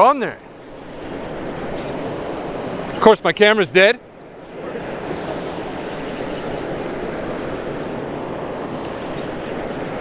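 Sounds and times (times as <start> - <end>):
fast river current rushing: 0.0 - 10.0.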